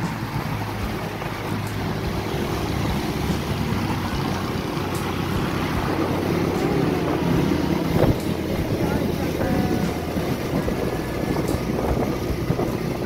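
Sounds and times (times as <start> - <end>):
road and wind noise: 0.0 - 13.0
vehicle engine hum: 0.0 - 13.0.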